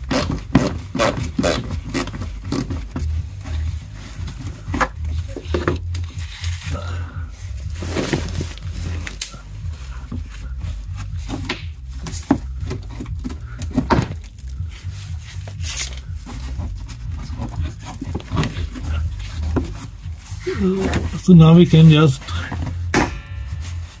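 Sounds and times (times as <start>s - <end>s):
plastic rubbing and scraping: 0.0s - 22.9s.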